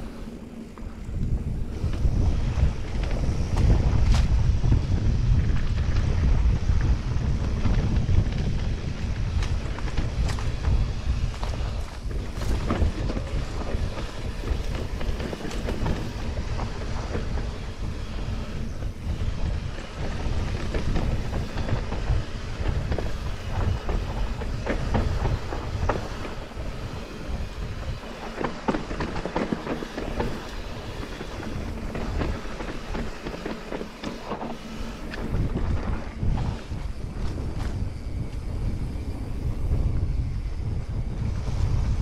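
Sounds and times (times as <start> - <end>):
bike rattling and clicking: 0.0 - 42.0
bike tyres rolling over gravel: 0.0 - 42.0
wind rumble on microphone: 0.0 - 42.0.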